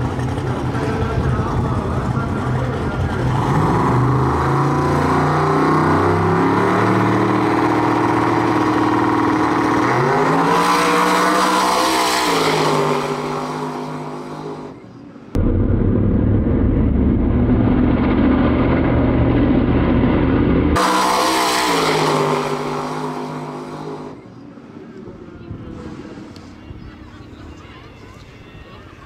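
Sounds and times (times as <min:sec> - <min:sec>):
engine at full throttle: 0:00.0 - 0:14.8, 0:15.4 - 0:24.2
car engine idling and revving: 0:00.0 - 0:26.6.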